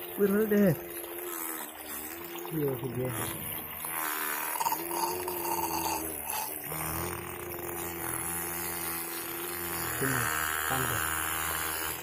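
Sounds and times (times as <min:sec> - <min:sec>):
small motor whining hum: 0:00.0 - 0:12.0.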